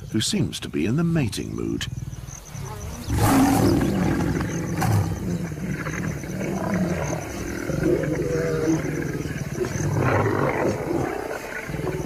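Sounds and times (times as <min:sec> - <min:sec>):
lion growling: 0:01.4 - 0:12.0.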